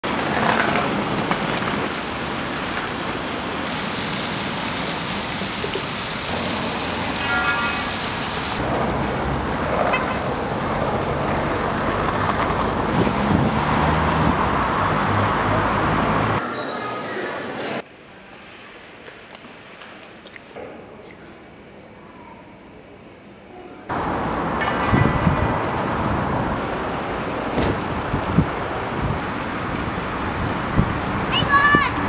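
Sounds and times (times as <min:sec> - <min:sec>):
traffic rushing: 0:00.0 - 0:17.9, 0:23.9 - 0:32.0.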